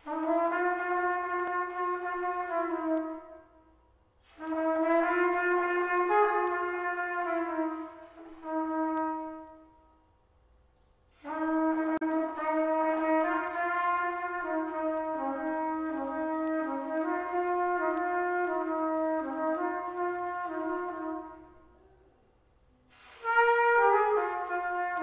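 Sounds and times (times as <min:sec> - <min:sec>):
solo trumpet long held notes: 0:00.0 - 0:10.0, 0:11.1 - 0:22.0, 0:22.9 - 0:25.0.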